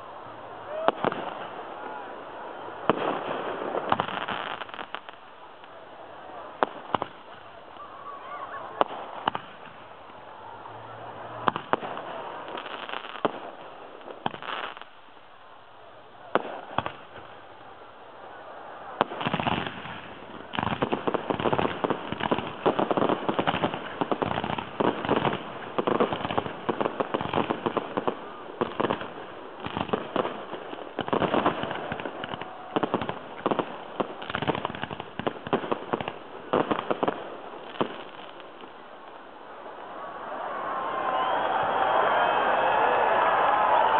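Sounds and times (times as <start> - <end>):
firework barrage of bangs and crackling: 0.0 - 43.9.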